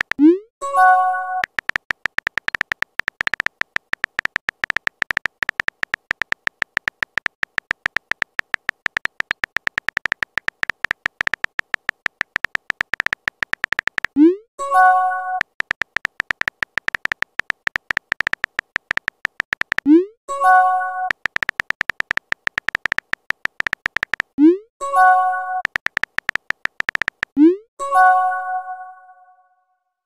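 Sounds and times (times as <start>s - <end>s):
keyboard typing clicks: 0.0s - 27.6s.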